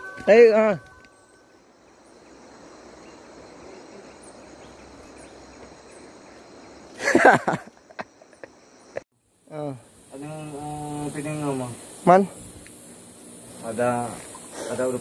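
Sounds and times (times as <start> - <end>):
background hiss: 0.0 - 15.0
insects droning: 0.0 - 15.0.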